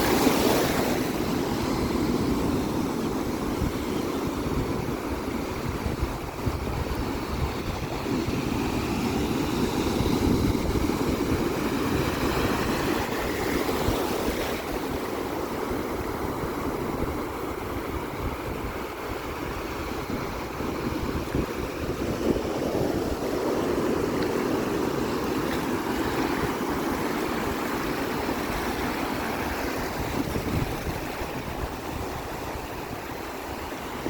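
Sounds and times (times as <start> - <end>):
sea waves breaking: 0.0 - 34.0.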